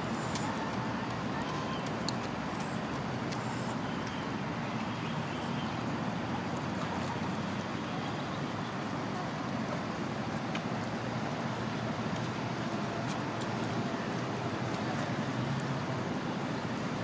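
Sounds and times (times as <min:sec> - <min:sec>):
low continuous urban rumble: 0:00.0 - 0:17.0.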